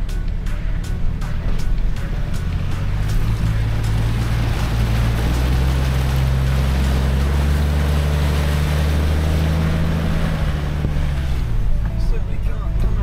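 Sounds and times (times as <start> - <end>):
engine droning: 0.0 - 13.0
water rushing and splashing: 0.0 - 13.0.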